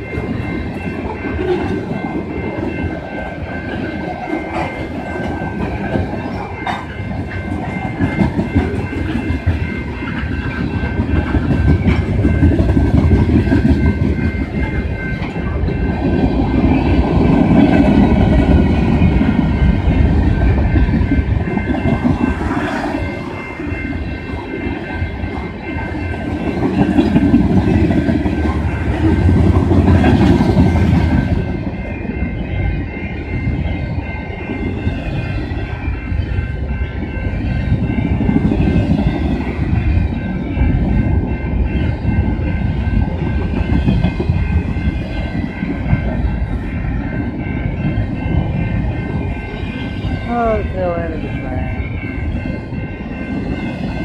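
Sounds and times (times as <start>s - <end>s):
freight train cars rumbling: 0.0s - 54.0s
wheels clattering on rail joints: 0.0s - 54.0s.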